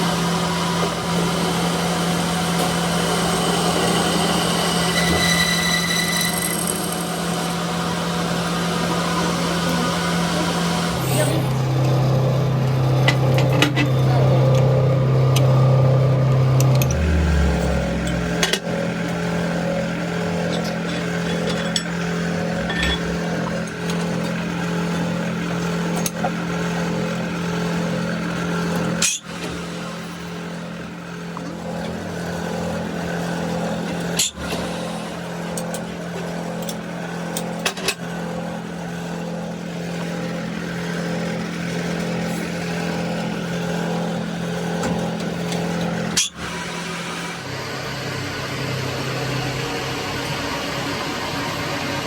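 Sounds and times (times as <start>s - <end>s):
machine humming: 0.0s - 37.3s, 38.1s - 52.0s.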